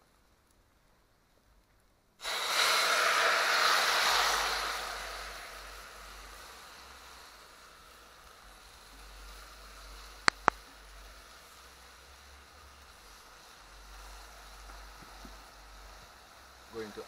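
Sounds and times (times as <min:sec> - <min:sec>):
vegetables sizzling in hot pot: 0:02.2 - 0:17.0.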